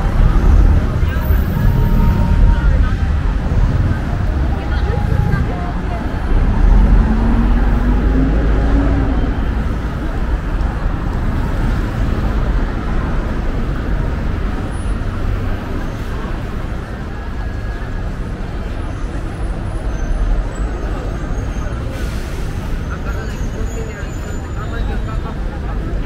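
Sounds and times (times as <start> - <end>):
vehicle engine humming: 0.0 - 21.2
passing vehicles: 0.0 - 26.0.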